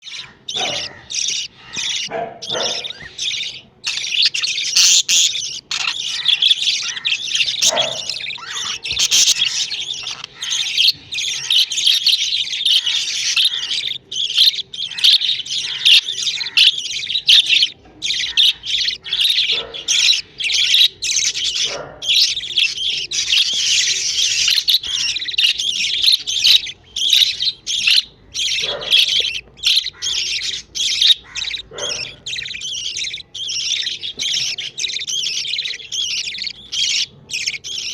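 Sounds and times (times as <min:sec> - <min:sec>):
chicks making raspy begging calls: 0:00.0 - 0:37.9.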